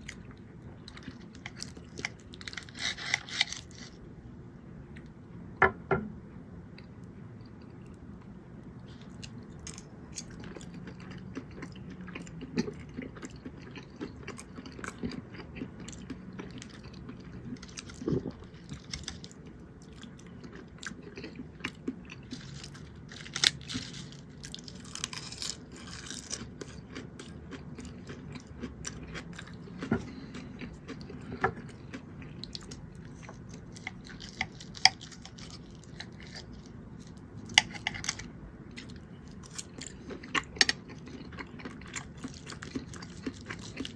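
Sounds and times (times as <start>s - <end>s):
person chewing food: 0.0s - 4.0s, 6.8s - 43.9s.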